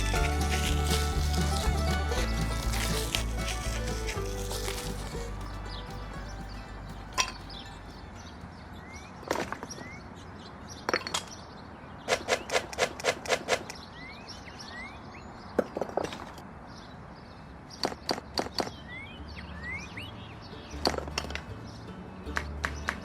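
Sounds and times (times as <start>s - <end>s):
small birds chirping: 0.0s - 12.6s, 13.6s - 23.0s.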